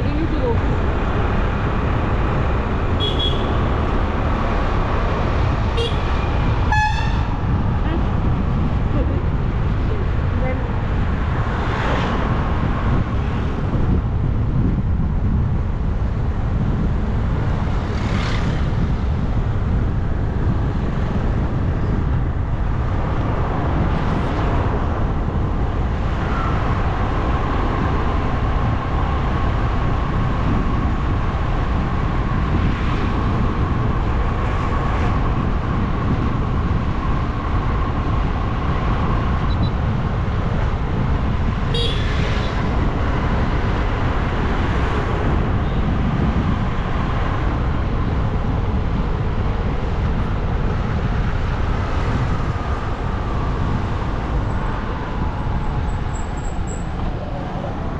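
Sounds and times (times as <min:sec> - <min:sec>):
wind and road noise: 0:00.0 - 0:57.9.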